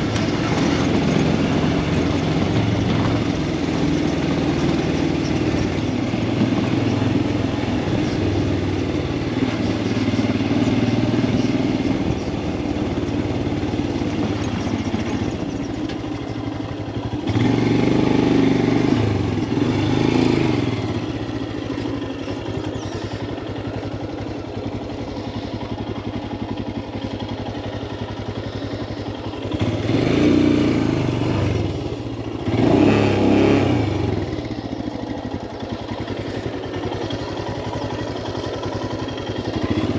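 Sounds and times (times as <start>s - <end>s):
motorcycle engine accelerating: 0.0s - 39.9s
road noise: 0.0s - 39.9s.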